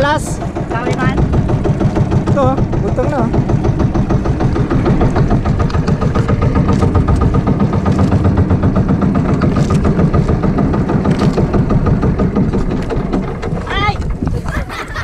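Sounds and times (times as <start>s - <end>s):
boat engine pulsing: 0.0s - 15.0s.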